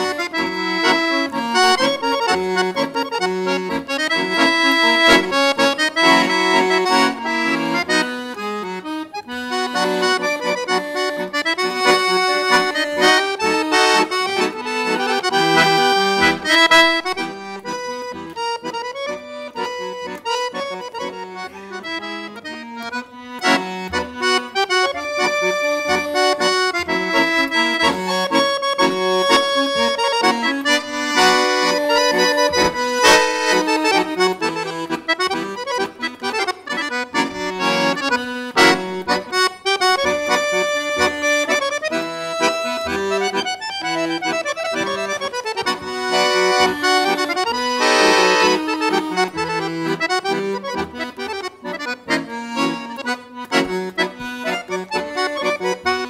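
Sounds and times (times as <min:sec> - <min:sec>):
accordion playing a tune: 0:00.0 - 0:56.0.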